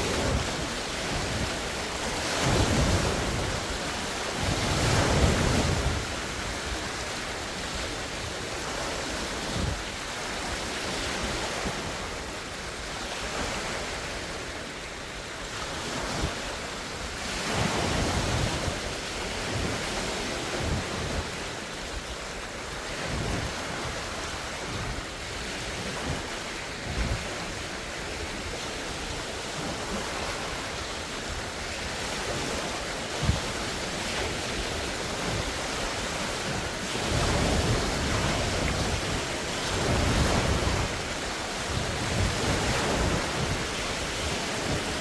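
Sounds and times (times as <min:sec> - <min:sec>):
waves breaking on shore: 0:00.0 - 0:45.0
wind gusting against microphone: 0:00.0 - 0:45.0.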